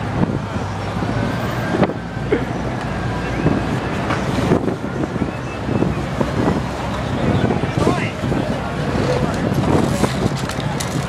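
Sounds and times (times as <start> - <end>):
city traffic: 0.0 - 11.0
murmur of crowd voices: 0.0 - 11.0
wind buffeting microphone: 0.0 - 11.0.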